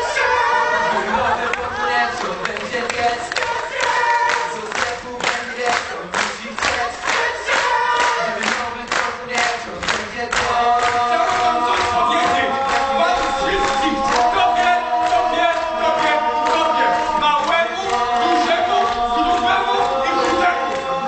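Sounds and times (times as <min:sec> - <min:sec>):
vocal group singing gospel: 0:00.0 - 0:21.0
hand-claps on the beat: 0:02.2 - 0:21.0.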